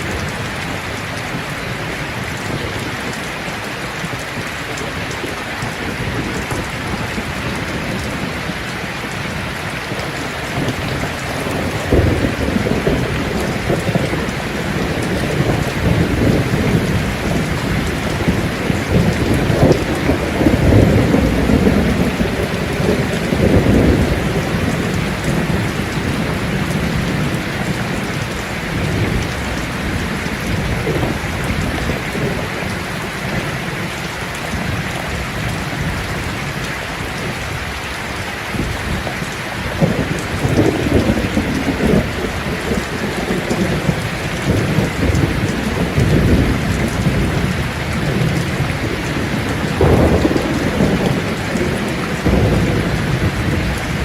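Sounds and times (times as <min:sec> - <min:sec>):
thunder rumbling: 0:00.0 - 0:37.7, 0:38.5 - 0:54.0
steady rain falling: 0:00.0 - 0:54.0.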